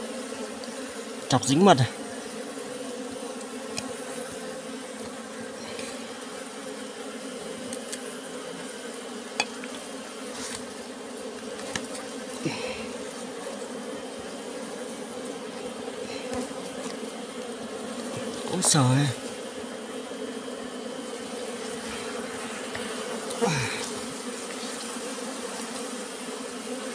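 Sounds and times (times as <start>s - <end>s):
bees buzzing: 0.0s - 26.9s.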